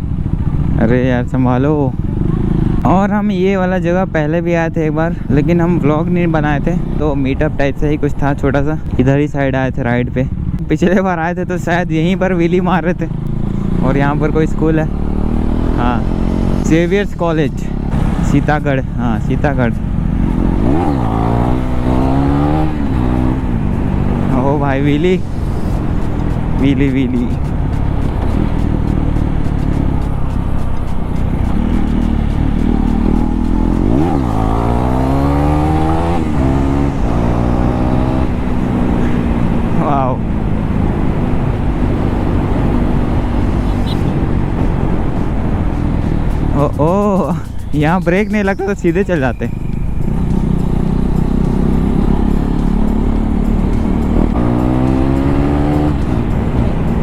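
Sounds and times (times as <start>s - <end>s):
motorcycle engine accelerating: 0.0s - 3.1s, 11.7s - 57.0s.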